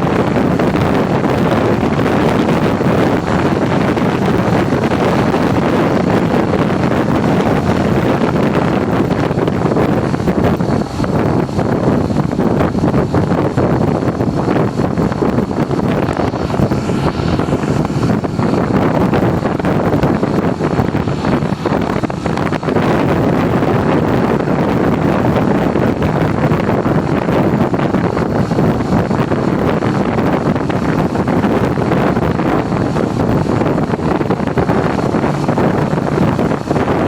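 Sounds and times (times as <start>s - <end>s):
motorcycle running: 0.0s - 37.0s
wind rushing over microphone: 0.0s - 37.0s.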